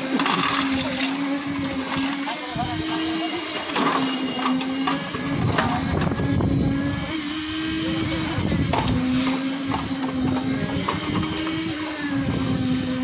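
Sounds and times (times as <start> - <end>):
shovels scraping and clanking: 0.0 - 6.2, 7.0 - 12.1
concrete mixer engine running: 0.0 - 13.0.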